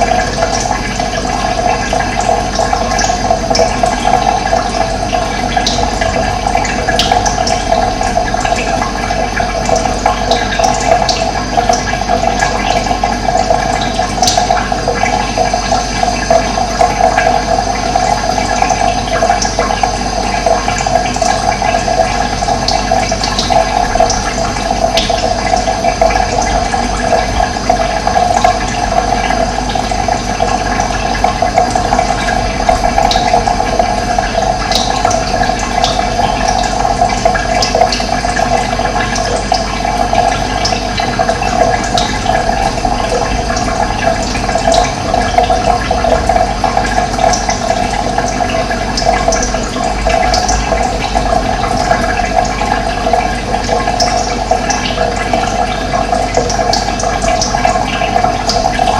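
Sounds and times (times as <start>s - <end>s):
flowing water rushing and gurgling: 0.0s - 58.9s.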